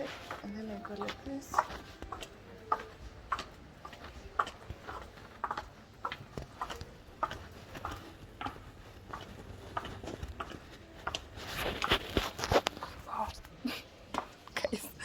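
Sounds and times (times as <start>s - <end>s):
hard-soled footsteps on hard floor: 0.0s - 14.6s.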